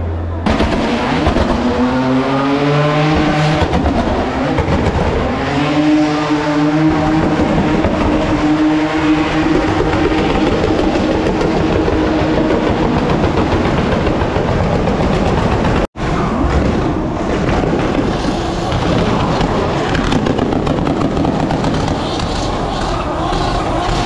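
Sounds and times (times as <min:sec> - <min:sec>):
cars revving high while sliding: 0:00.4 - 0:14.5, 0:16.0 - 0:24.0.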